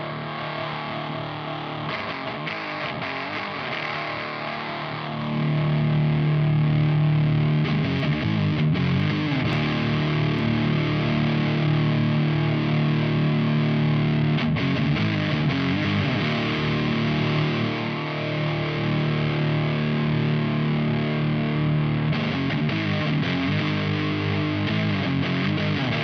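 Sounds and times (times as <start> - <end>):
distorted electric guitar chords: 0.0 - 26.0.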